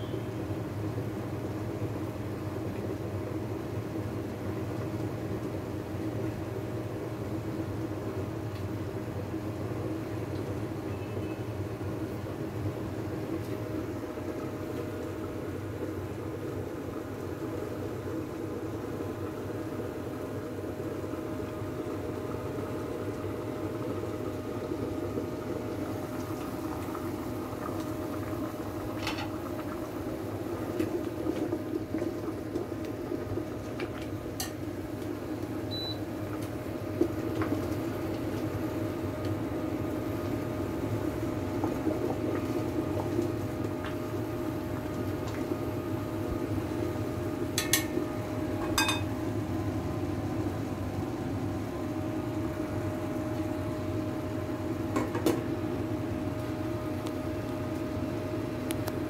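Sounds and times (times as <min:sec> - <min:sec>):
sauce simmering and bubbling: 0:00.9 - 0:59.0
constant hum: 0:05.4 - 0:59.0.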